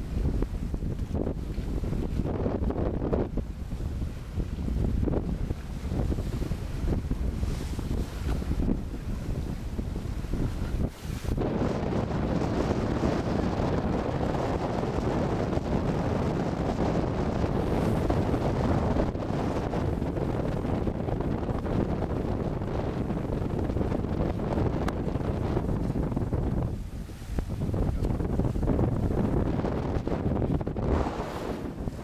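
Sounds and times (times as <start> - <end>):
water rushing along a hull: 0.0 - 32.0
wind buffeting the microphone: 0.0 - 32.0.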